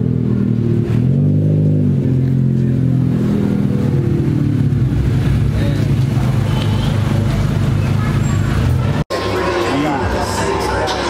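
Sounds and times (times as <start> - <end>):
car engine running at low revs: 0.0 - 9.0.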